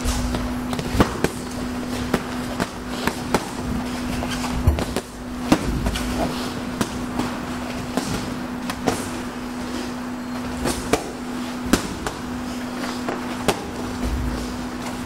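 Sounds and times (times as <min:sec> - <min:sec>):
steady low hum: 0:00.0 - 0:15.0
boxing glove punches slapping: 0:00.1 - 0:09.4, 0:10.6 - 0:12.4, 0:13.0 - 0:15.0.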